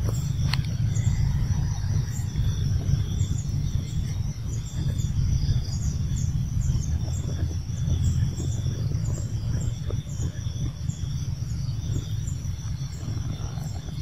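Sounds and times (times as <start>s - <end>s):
faint steady high hum: 0.0s - 14.0s
wind rumbling on microphone: 0.0s - 14.0s.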